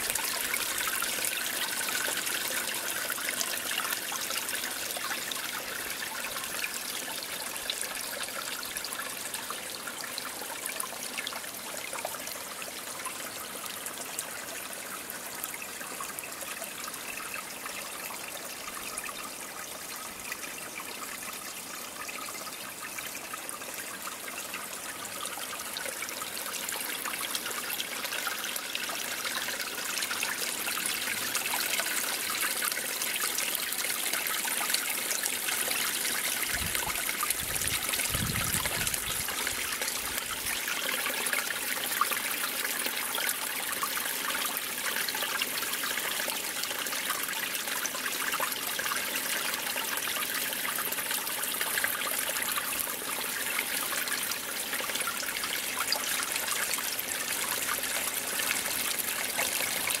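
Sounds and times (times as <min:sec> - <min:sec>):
spring water trickling over rocks: 0:00.0 - 1:00.0.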